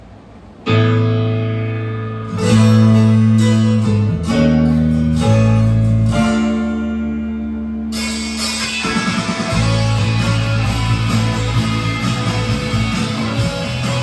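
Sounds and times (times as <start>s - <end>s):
strummed guitar chords: 0.7s - 14.0s.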